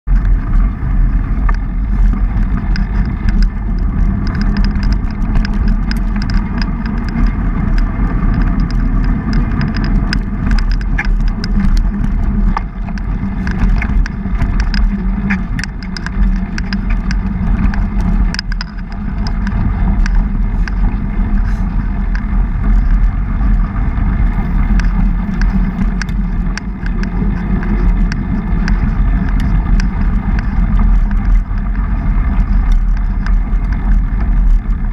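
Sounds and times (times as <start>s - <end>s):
wind on microphone: 0.0s - 34.9s
bike clicks and rattles: 0.1s - 34.9s.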